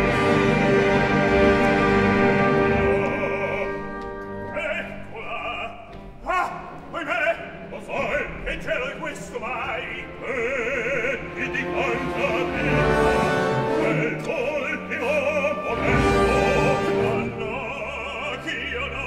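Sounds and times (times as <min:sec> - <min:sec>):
operatic singing with vibrato: 0:00.0 - 0:19.0
orchestra playing: 0:00.0 - 0:19.0.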